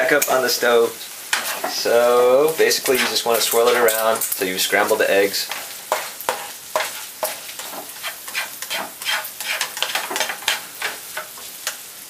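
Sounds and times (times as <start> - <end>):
food sizzling in frying pan: 0.0 - 12.0
spatula scraping pan: 1.2 - 11.5.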